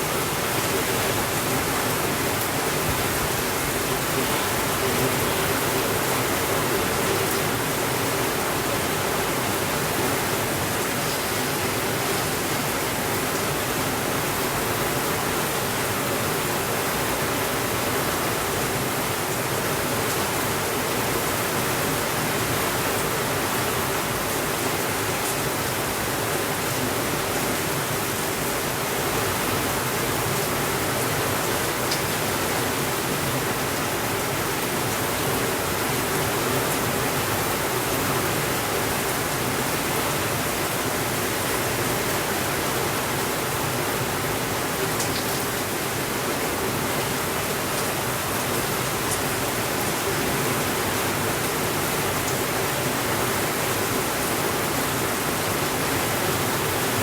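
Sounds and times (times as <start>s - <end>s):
steady rainfall hiss: 0.0s - 57.0s.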